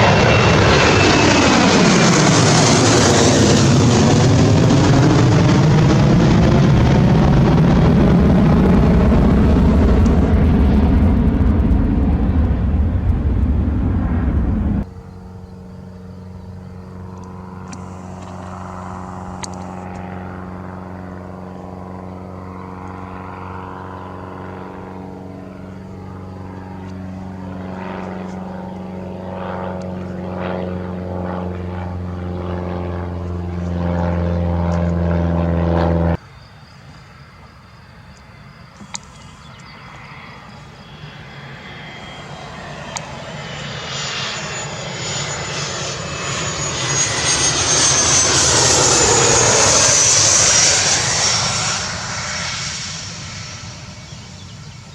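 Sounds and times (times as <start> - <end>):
loud aircraft rumble: 0.0 - 54.9
propeller aircraft engine droning: 0.0 - 54.9.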